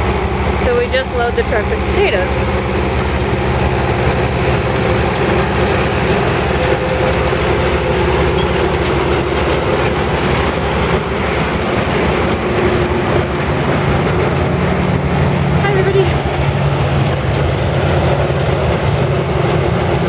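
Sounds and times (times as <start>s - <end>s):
conveyor chains and belts: 0.0s - 20.0s
harvester diesel drone: 0.0s - 20.0s.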